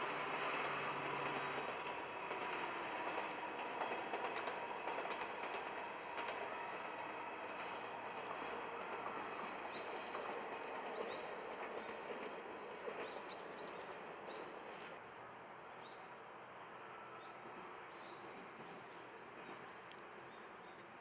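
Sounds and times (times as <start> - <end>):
distant diesel train running: 0.0 - 21.0.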